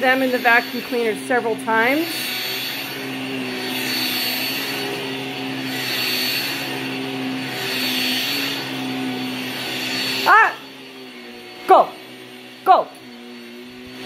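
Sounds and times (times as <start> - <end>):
vacuum cleaner running on carpet: 0.0 - 14.0.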